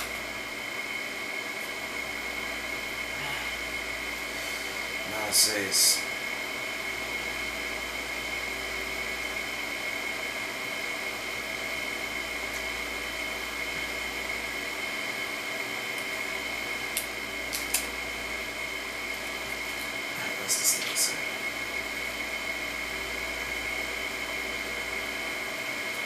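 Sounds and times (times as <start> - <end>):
machine whine: 0.0 - 26.0.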